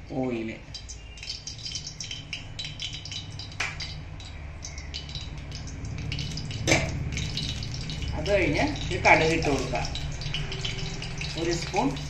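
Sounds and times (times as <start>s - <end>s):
oil crackling in a pan: 0.0s - 12.0s
steady low hum: 0.6s - 12.0s.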